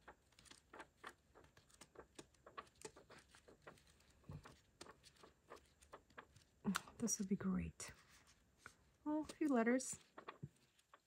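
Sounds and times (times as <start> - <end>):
paper rustling: 0.0 - 7.2, 7.9 - 11.0.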